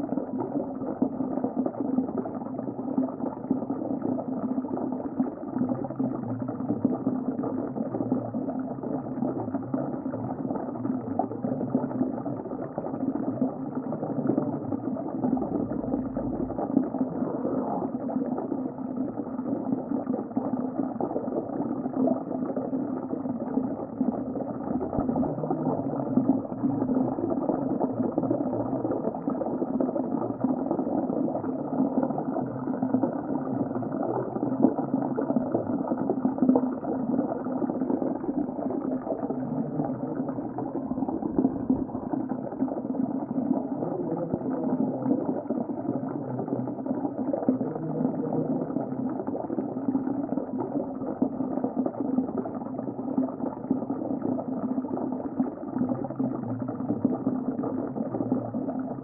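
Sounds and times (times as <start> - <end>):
underwater rush of bubbling water: 0.0 - 59.0.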